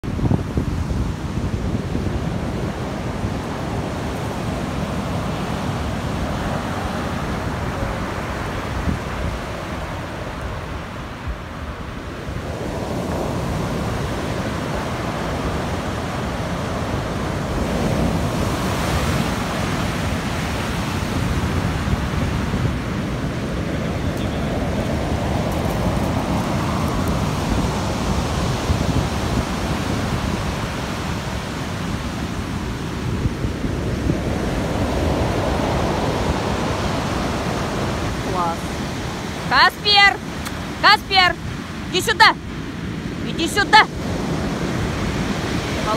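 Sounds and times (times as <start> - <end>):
heavy surf breaking: 0.0 - 45.9
wind rumbling on microphone: 0.0 - 45.9.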